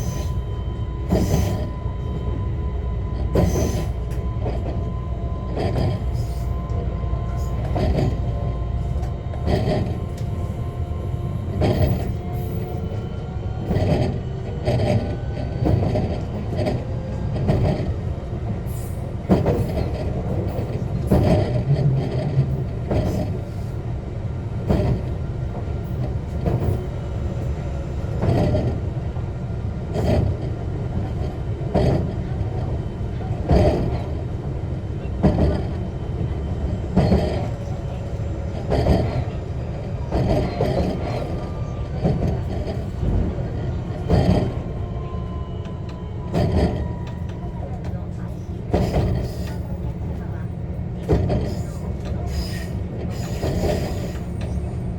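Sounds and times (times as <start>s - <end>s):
rail-joint clacks: 0.0s - 10.7s, 11.5s - 23.9s, 24.5s - 54.9s
train running low rumble: 0.0s - 54.9s.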